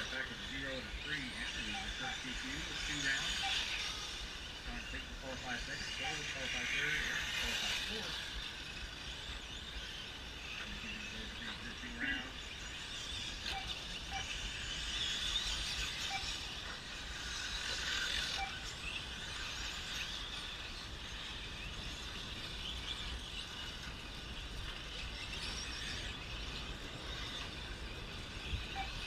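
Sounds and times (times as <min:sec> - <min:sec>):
rc truck motors whining: 0:00.0 - 0:29.0.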